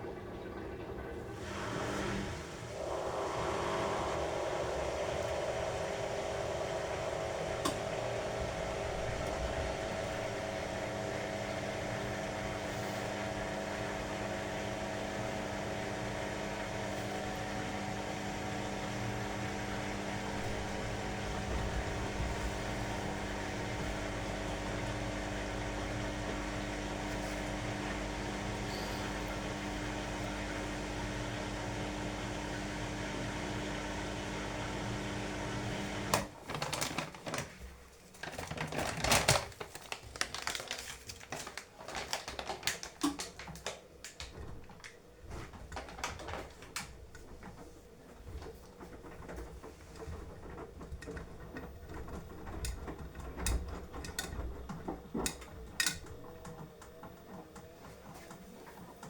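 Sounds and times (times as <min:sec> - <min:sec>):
washing machine motor hum: 0:00.0 - 0:59.0.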